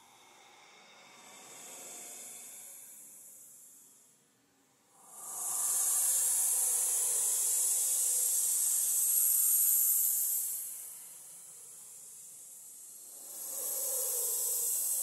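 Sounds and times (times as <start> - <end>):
long breathy hiss: 0.0 - 15.0.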